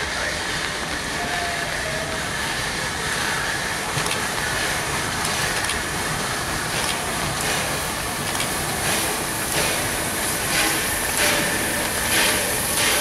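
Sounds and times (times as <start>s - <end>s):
steady rushing train noise: 0.0s - 13.0s
wheels clicking on track: 0.0s - 13.0s.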